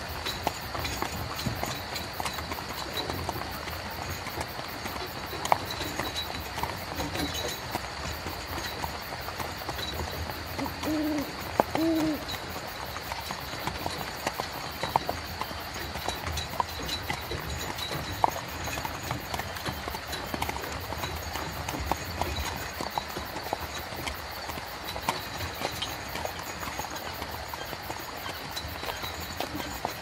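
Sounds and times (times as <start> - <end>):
carriage wheels rumbling: 0.0 - 30.0
horse hooves clip-clopping: 0.0 - 30.0.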